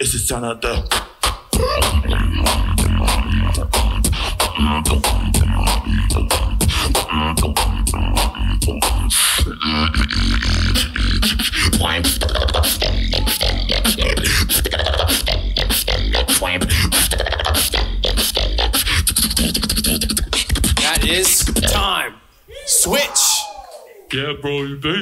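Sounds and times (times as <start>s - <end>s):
person beatboxing: 0.0s - 22.0s.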